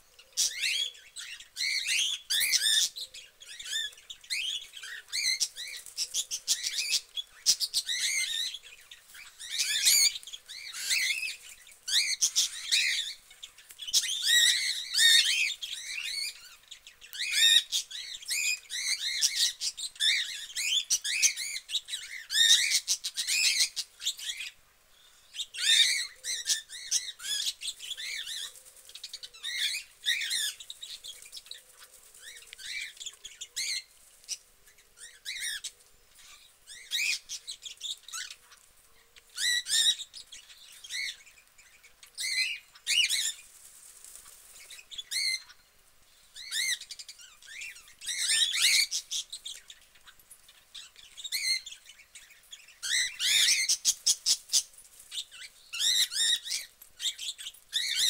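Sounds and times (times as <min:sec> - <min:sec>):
cockatiels chirping: 0:00.2 - 0:24.6, 0:25.3 - 0:38.6, 0:39.2 - 0:43.4, 0:44.6 - 0:45.7, 0:46.4 - 0:58.0.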